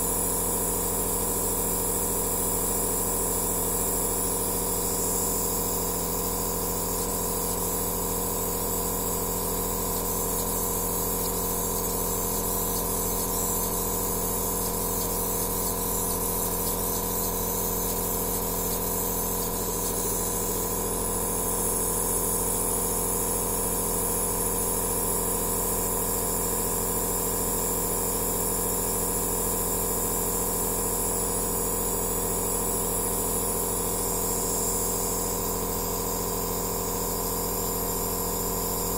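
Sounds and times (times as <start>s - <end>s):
nebulizer electric hum: 0.0s - 38.9s.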